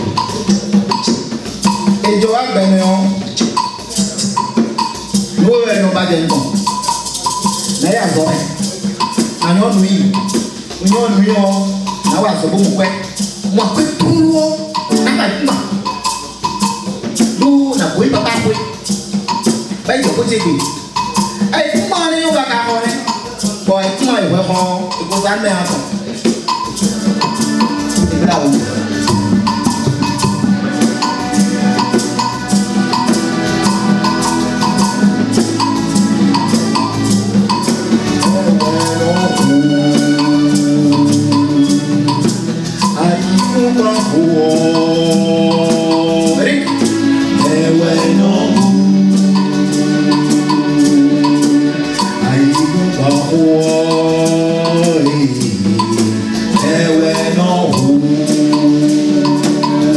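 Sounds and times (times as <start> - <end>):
fast percussion ticking: 0.0 - 59.9.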